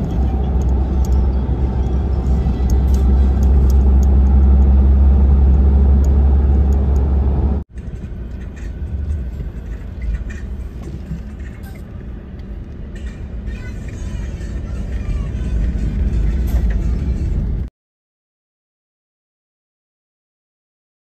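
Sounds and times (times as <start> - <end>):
car road and wind rumble: 0.0 - 17.7.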